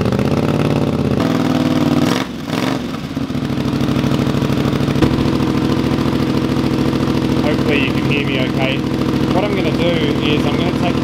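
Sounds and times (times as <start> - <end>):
motorcycle engine idling: 0.0 - 1.2, 2.9 - 11.0.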